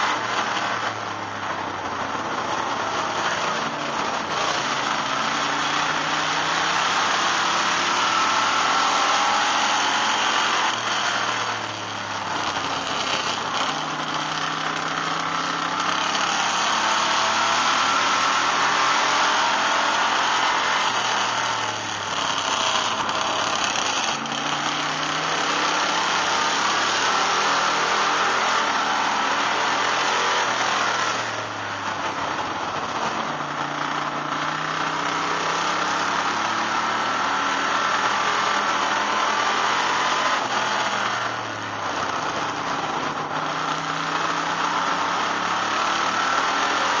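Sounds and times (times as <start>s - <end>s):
race car engine running hard: 0.0s - 47.0s
road and wind noise: 0.0s - 47.0s.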